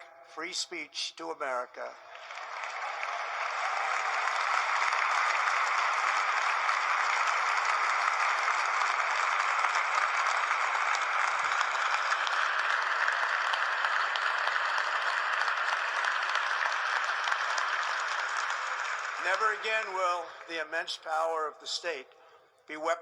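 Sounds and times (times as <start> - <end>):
crowd applauding: 1.9 - 20.7.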